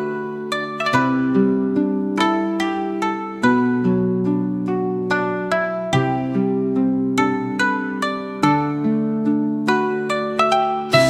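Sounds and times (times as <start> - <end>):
plucked string instrumental music: 0.0 - 11.0.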